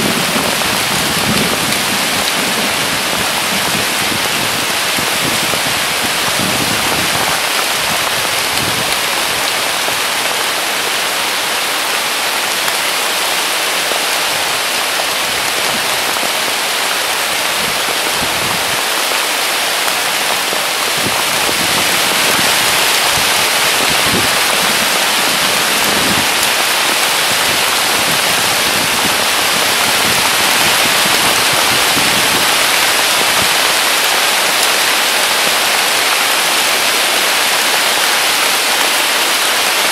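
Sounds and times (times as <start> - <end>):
heavy rain on leaves and grass: 0.0 - 39.9.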